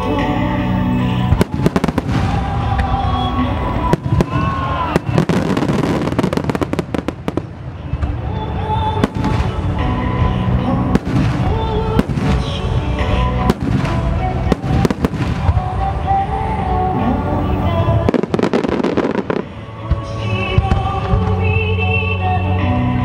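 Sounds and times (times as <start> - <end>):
sung ballad over loudspeakers: 0.0 - 23.0
firework crackle: 1.2 - 21.5.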